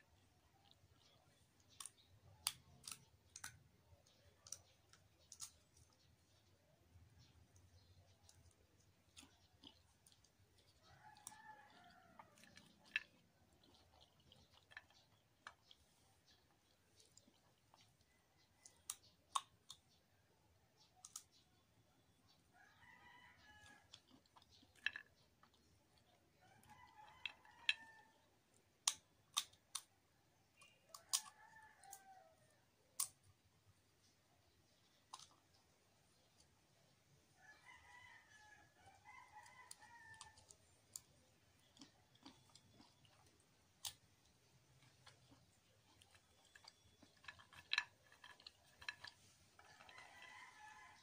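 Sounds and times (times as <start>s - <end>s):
peanut shells cracking: 0.1s - 6.4s, 7.2s - 20.0s, 22.7s - 33.4s, 38.3s - 51.0s.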